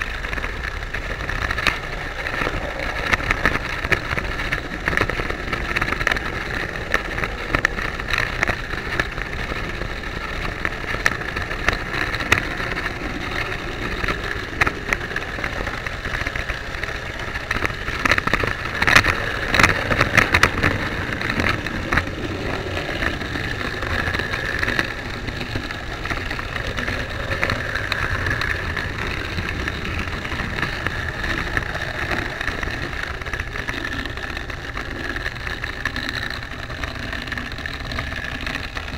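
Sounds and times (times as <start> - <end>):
wheel and rail clicks: 0.0 - 38.9.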